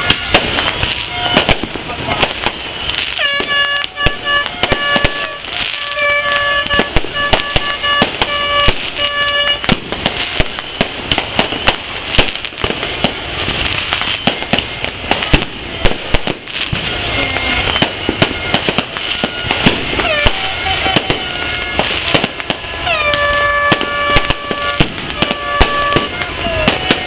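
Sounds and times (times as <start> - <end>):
buzzy horn blasts: 0.0 - 27.0
crowd din: 0.0 - 27.0
fireworks bangs and crackles: 0.0 - 27.0.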